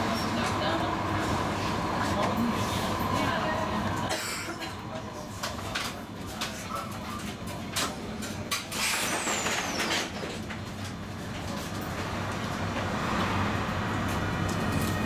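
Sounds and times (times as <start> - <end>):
tram interior rumble: 0.0 - 15.0.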